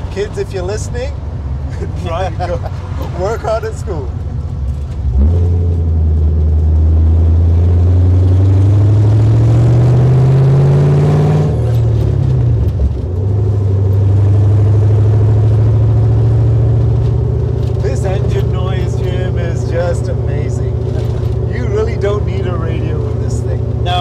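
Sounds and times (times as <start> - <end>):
car engine pulling away: 1.4 - 24.0.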